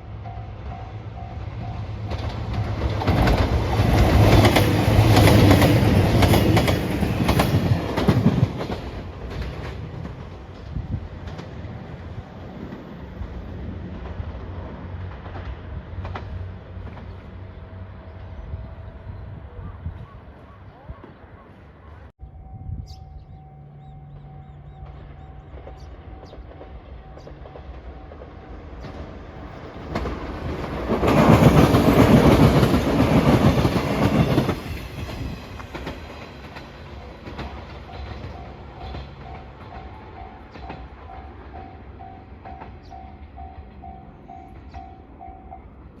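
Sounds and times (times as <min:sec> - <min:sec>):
train wheels rattling on rail: 0:00.2 - 0:18.6, 0:24.1 - 0:45.9.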